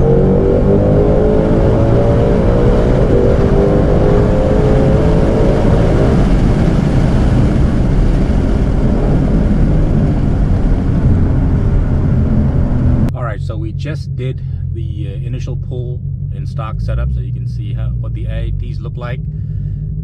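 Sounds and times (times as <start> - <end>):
car engine under load: 0.0 - 20.0.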